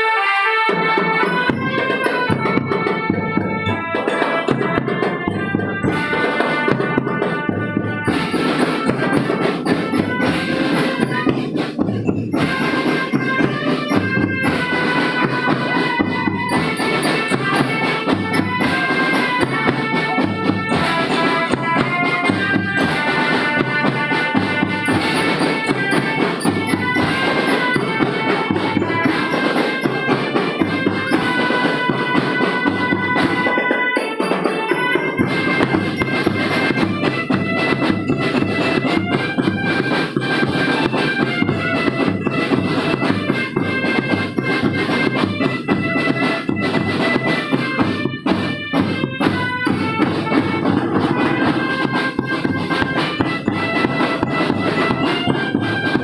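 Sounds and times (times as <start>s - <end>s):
marching drums: 0.0s - 56.0s
reedy wind instrument melody: 0.0s - 56.0s.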